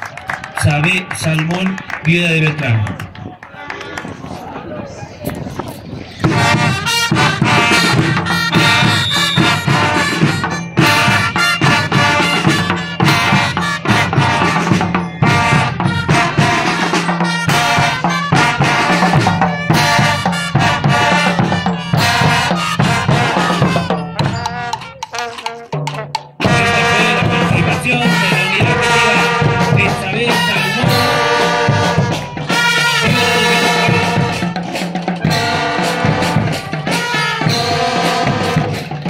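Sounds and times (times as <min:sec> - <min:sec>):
brass band playing latin music: 0:05.2 - 0:39.0.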